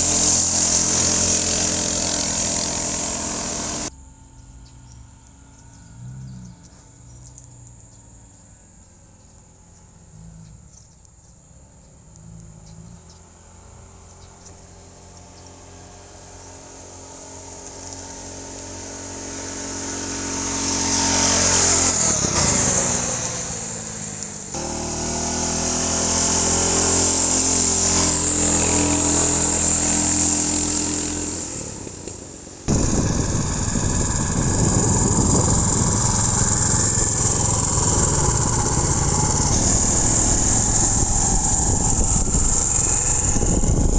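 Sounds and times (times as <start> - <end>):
small petrol engine running: 0.0 - 4.7, 11.5 - 43.9.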